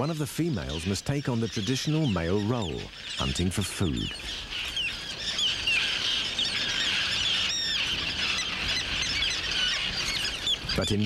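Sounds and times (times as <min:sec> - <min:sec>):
tern colony chirping: 0:00.0 - 0:11.0.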